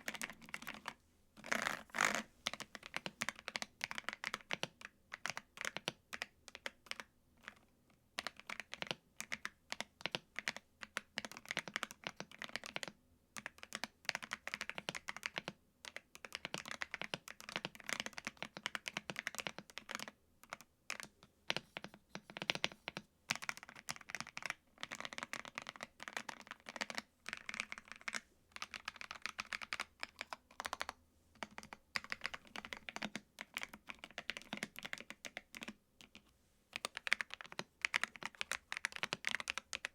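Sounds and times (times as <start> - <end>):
mechanical keyboard typing: 0.0 - 7.6, 8.2 - 39.9.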